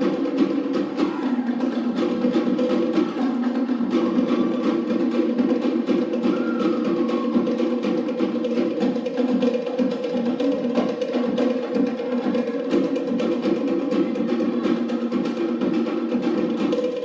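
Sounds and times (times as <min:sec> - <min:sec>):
fast slit drum rhythm: 0:00.0 - 0:17.0.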